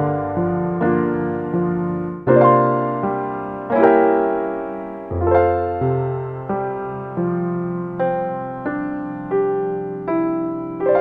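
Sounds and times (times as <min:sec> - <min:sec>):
slow gentle piano notes: 0:00.0 - 0:11.0.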